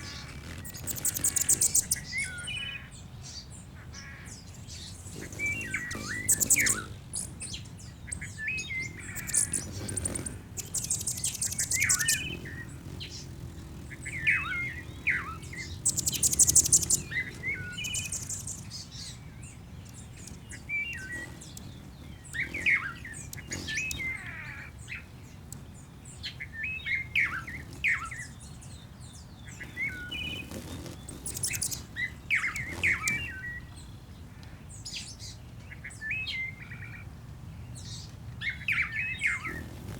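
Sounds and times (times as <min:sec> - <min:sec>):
high buzzy bird trills: 0:00.0 - 0:37.1, 0:37.8 - 0:39.9
birds chirping: 0:00.0 - 0:39.9.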